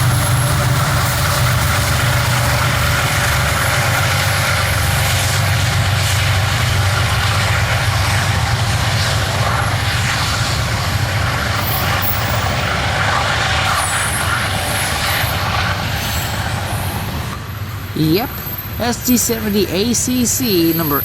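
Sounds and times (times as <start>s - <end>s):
diesel locomotive drone: 0.0s - 21.0s
train wheels rolling: 0.0s - 21.0s.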